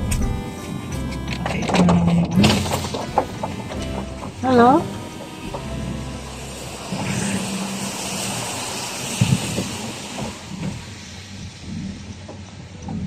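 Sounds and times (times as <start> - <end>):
heavy vehicle passing: 0.0 - 13.0.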